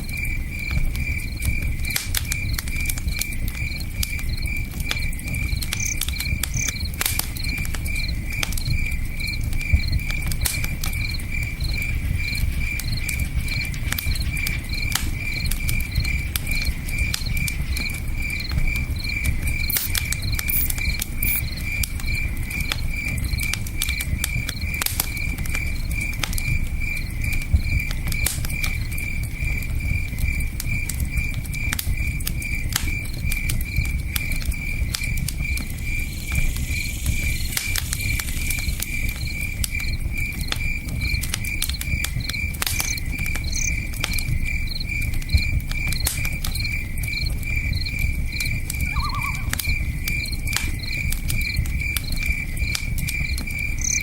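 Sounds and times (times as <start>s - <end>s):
campfire crackling: 0.0s - 54.0s
cricket chirping: 0.0s - 54.0s.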